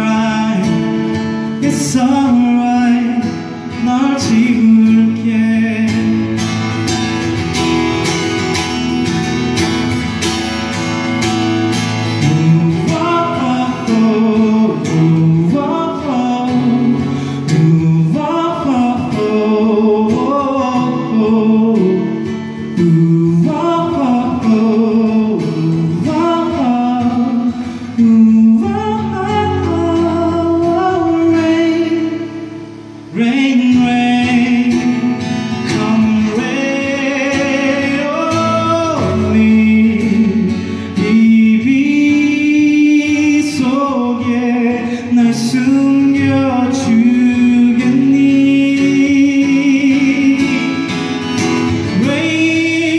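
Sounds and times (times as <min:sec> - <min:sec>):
man singing pop ballad: 0:00.0 - 0:09.3, 0:11.2 - 0:52.9
acoustic guitar strumming: 0:00.0 - 0:52.9.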